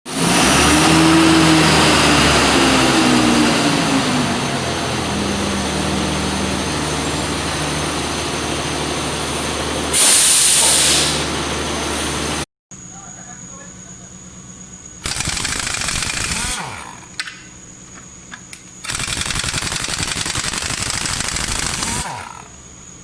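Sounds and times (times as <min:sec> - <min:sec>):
pneumatic impact wrench running: 0:00.1 - 0:11.3, 0:15.0 - 0:23.0.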